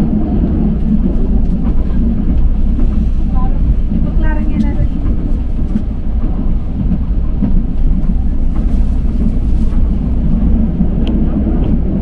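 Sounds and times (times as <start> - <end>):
light-rail train rumbling: 0.0 - 12.0.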